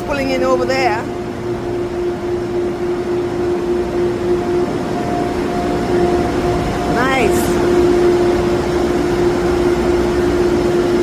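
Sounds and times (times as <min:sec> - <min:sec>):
idling train machinery hum: 0:00.0 - 0:11.0.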